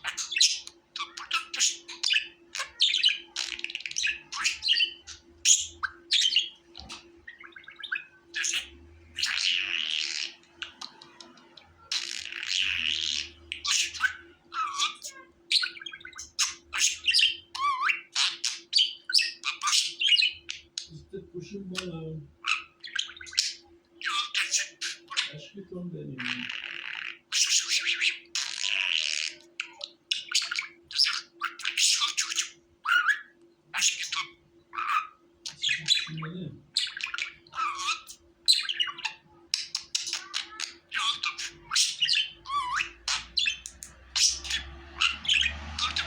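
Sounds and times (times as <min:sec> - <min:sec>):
budgerigar chirping and warbling: 0:00.0 - 0:46.0.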